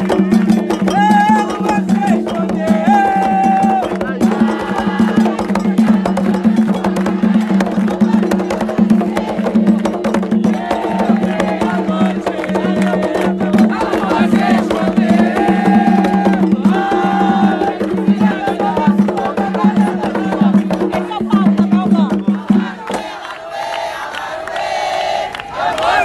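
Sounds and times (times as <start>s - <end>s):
hand drums beaten rhythmically: 0.0s - 23.8s
voices singing a chant: 0.0s - 26.0s.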